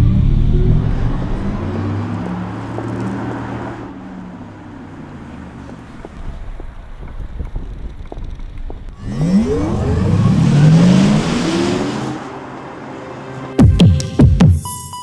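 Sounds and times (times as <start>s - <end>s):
electric car low layered hum: 0.0s - 13.5s
road noise: 0.0s - 14.9s.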